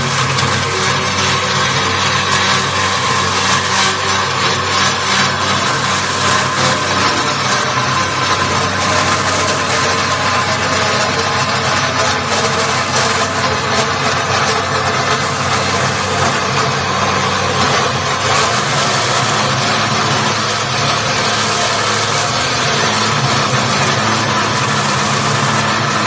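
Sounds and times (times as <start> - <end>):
cold saw cutting metal tube: 0.0 - 26.0
saw motor hum: 0.0 - 26.0.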